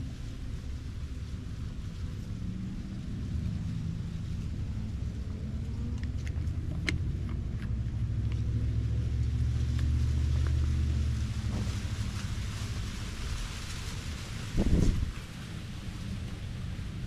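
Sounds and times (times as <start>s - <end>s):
passing motor vehicle rumble: 0.0s - 17.0s.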